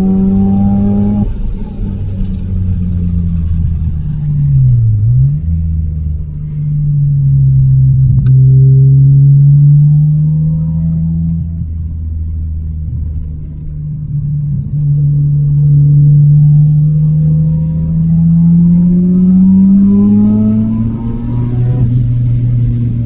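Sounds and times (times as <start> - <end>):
rotary car engine revving: 0.0 - 23.0.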